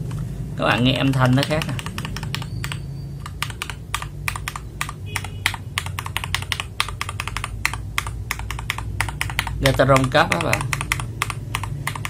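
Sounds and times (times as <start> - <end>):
keyboard key clacks: 0.0 - 12.0.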